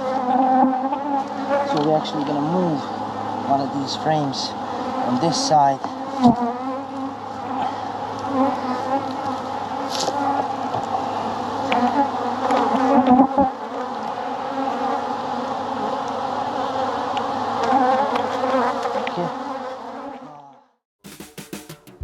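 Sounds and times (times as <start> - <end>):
honeybees buzzing: 0.0 - 20.5.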